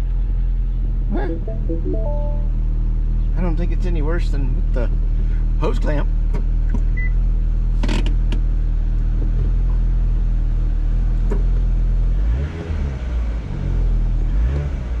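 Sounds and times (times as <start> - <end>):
car engine running low hum: 0.0 - 15.0.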